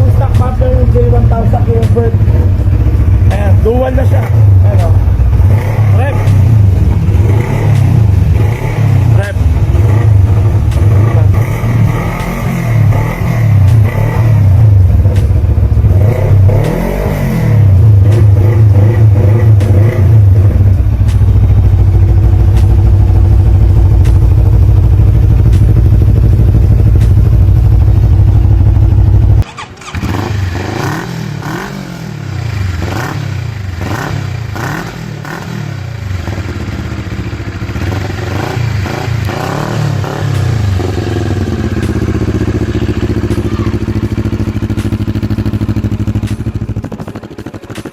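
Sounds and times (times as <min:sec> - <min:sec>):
motorcycle throttle blips: 0:00.0 - 0:35.5, 0:36.1 - 0:47.9
motorcycle engine revving: 0:00.0 - 0:47.9.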